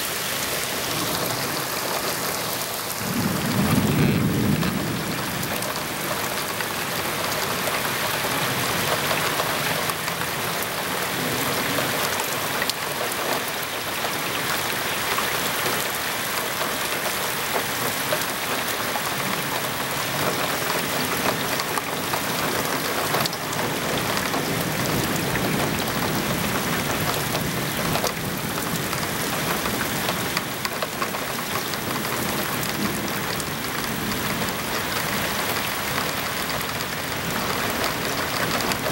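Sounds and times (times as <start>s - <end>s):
raindrops ticking on surfaces: 0.0s - 38.9s
steady rain hiss: 0.0s - 38.9s.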